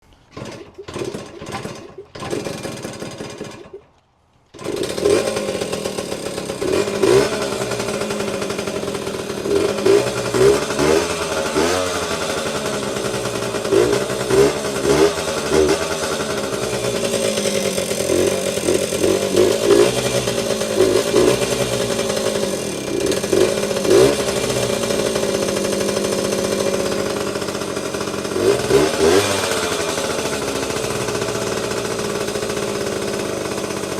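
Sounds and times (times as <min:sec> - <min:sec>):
motorcycle engine starting: 0:00.0 - 0:33.9
motorcycle throttle blips: 0:00.2 - 0:33.9.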